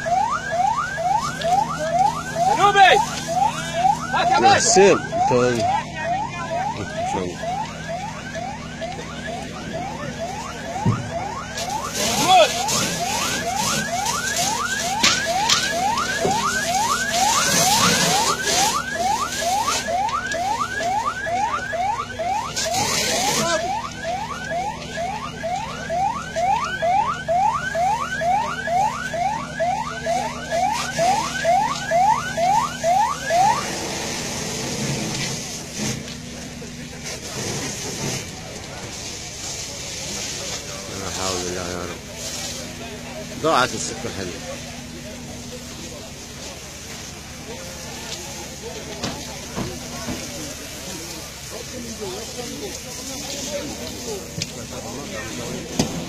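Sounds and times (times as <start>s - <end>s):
emergency siren sweeping: 0.0s - 56.0s.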